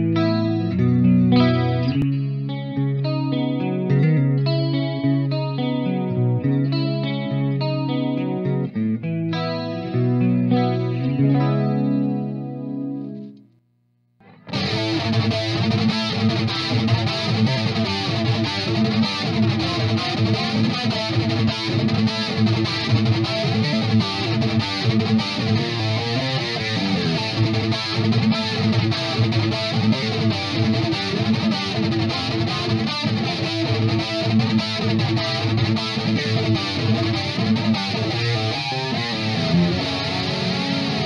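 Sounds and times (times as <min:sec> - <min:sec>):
electric guitar riffing with chorus: 0:00.0 - 0:13.5, 0:14.2 - 0:41.0.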